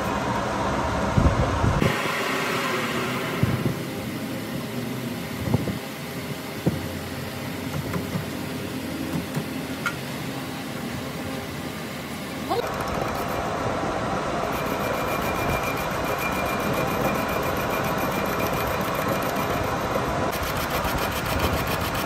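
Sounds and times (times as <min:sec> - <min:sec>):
metal lathe droning: 0:01.8 - 0:22.0.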